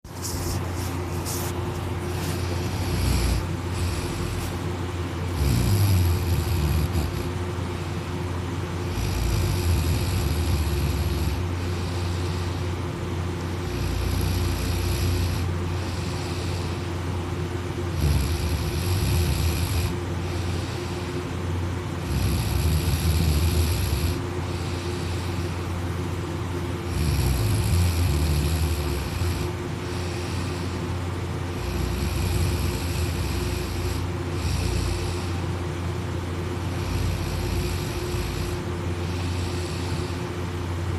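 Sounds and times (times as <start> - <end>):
steady low hum: 0.0 - 40.9
person snoring: 0.1 - 7.5, 8.8 - 12.9, 13.5 - 17.1, 17.8 - 21.3, 21.9 - 25.8, 26.8 - 35.6, 36.7 - 40.4.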